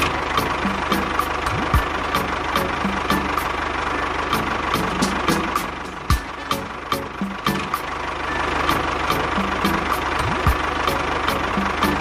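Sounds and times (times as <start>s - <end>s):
background music with beat: 0.0s - 3.6s, 4.3s - 12.0s
small engine idling: 0.0s - 12.0s.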